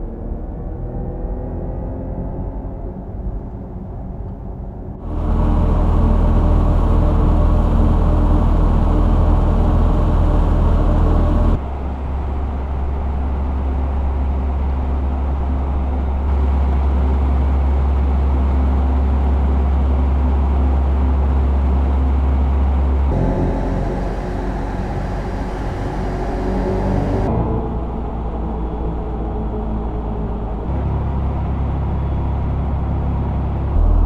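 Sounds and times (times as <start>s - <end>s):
electric car synthesized drive hum: 5.0s - 34.0s.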